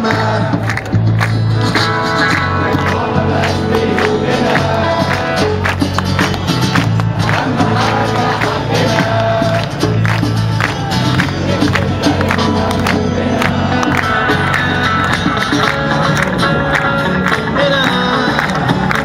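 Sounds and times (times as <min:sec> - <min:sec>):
crowd singing along: 0:00.0 - 0:00.9, 0:01.6 - 0:19.0
crowd clapping: 0:00.0 - 0:19.0
live music with acoustic guitar: 0:00.0 - 0:19.0.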